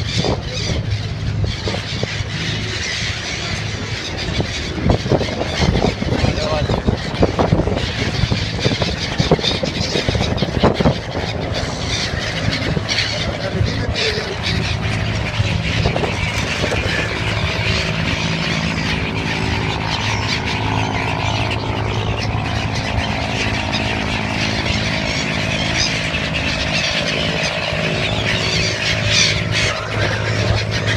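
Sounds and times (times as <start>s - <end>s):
many birds calling: 0.0s - 30.9s
steady low drone: 0.0s - 30.9s.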